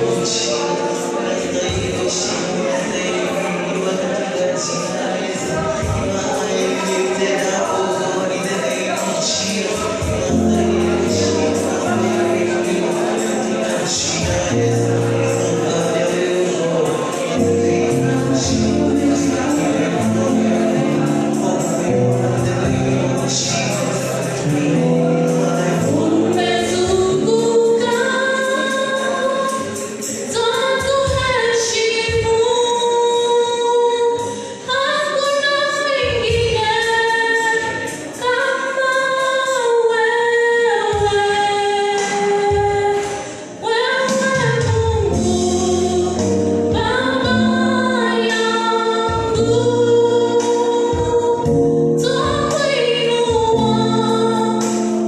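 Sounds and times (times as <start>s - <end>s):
group singing gospel song: 0.0s - 31.8s, 36.8s - 55.0s
accompanying music: 0.0s - 55.0s.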